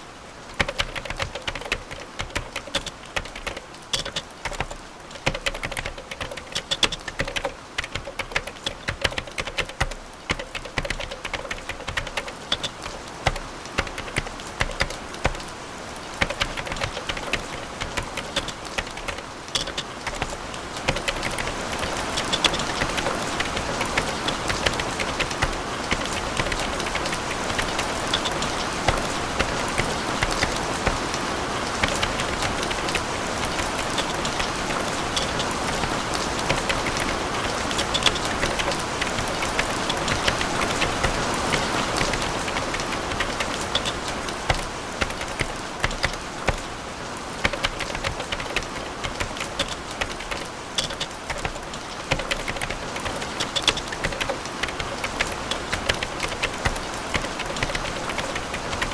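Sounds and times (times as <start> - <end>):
computer keyboard typing: 0.0 - 58.9
rain-like patter: 0.0 - 58.9.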